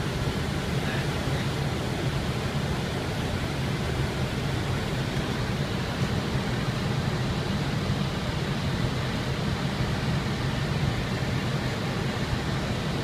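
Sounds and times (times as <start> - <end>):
airliner flight deck rumble: 0.0 - 13.0.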